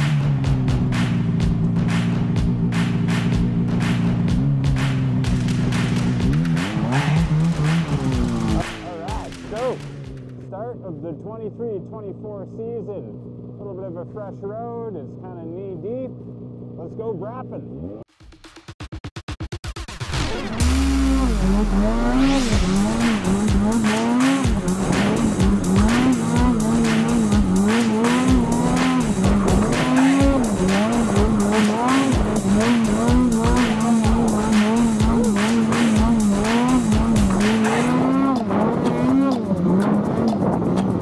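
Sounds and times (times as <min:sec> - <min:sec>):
music with steady beat: 0:00.0 - 0:10.4, 0:18.1 - 0:41.0
snowmobile engine revving: 0:00.0 - 0:18.0, 0:20.0 - 0:41.0.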